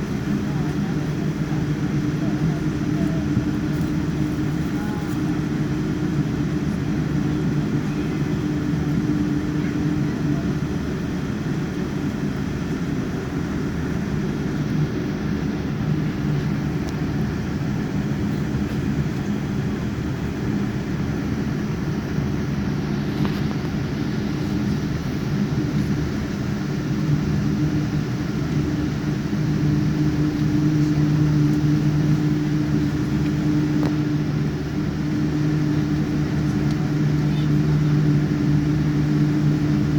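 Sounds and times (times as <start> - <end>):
airplane cabin engine hum: 0.0 - 39.9.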